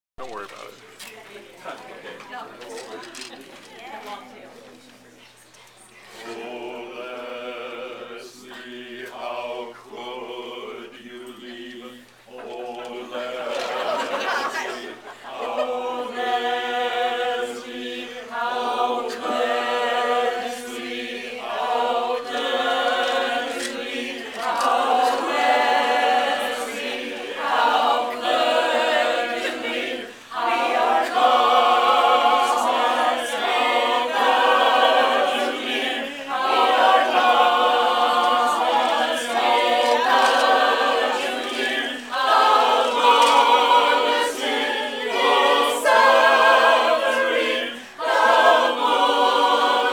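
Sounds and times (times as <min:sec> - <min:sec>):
mixed choir singing: 0:06.0 - 0:49.9.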